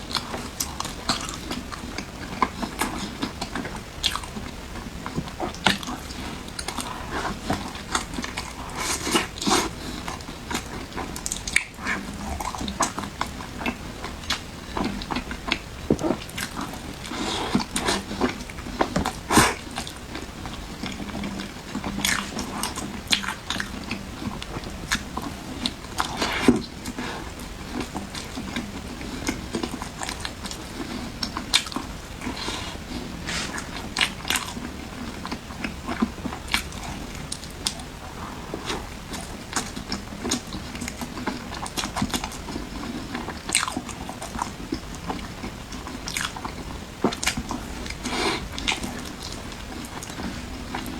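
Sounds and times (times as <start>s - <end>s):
person chewing crunchy food: 0.0s - 50.9s.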